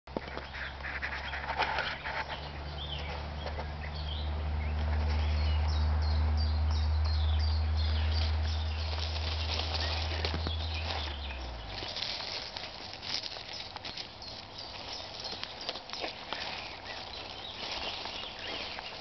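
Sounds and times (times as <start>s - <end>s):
bird chirping: 0.2s - 19.0s
steady low rumble: 0.2s - 19.0s.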